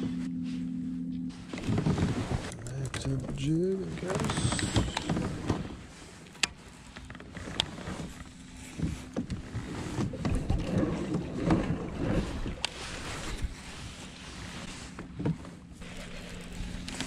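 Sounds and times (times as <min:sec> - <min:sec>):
water lapping against hull: 0:01.3 - 0:17.0.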